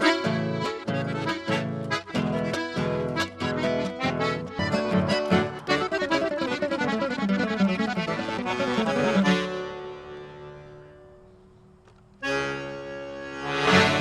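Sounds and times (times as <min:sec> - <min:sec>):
accordion playing: 0:00.0 - 0:11.3, 0:12.2 - 0:14.0.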